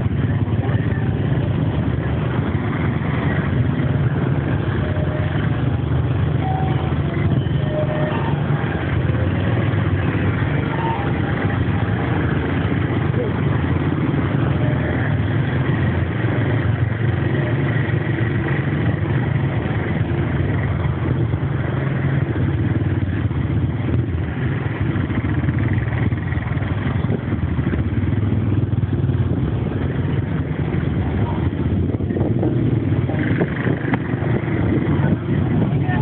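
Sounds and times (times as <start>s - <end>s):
engine running in traffic: 0.0s - 36.0s
motorcycles close by: 0.0s - 36.0s.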